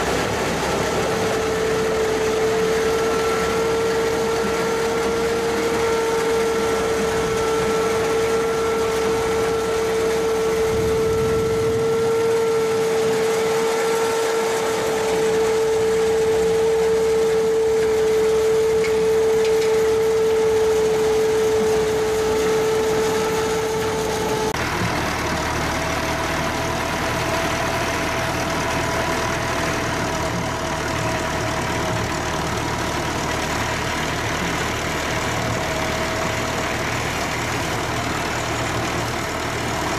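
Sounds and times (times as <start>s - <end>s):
harvesting machine whine: 0.0s - 39.9s
tractor engine rumble: 0.0s - 39.9s.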